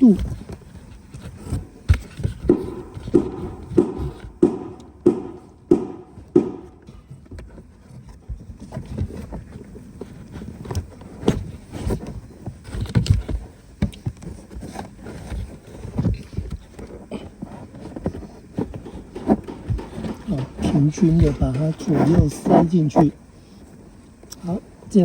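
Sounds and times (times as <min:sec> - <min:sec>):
filter rubbing and scraping plastic: 0:00.0 - 0:04.4, 0:06.8 - 0:24.0.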